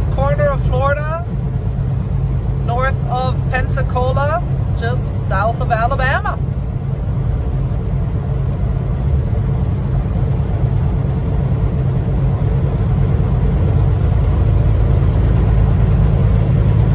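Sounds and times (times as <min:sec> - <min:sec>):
truck engine and road rumble: 0:00.0 - 0:16.9.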